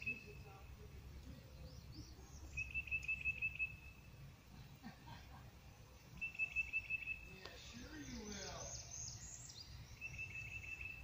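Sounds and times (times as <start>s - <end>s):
songbird trill: 0.0s - 5.0s, 5.6s - 11.0s.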